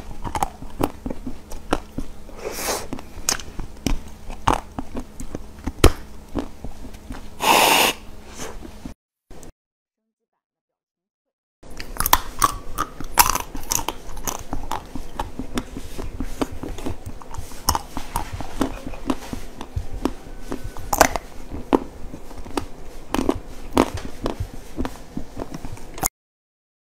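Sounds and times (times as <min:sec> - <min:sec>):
chocolate crunching while chewed: 0:00.0 - 0:07.4, 0:11.7 - 0:26.1.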